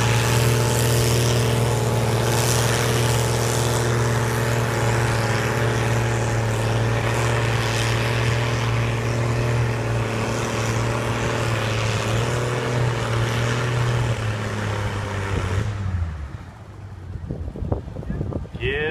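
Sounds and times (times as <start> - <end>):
tractor engine running hard: 0.0 - 18.1.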